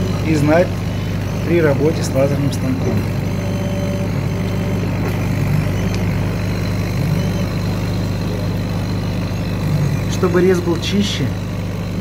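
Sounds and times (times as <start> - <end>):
extraction fan and pump hum: 0.0 - 12.0
stepper motors whirring: 0.0 - 12.0.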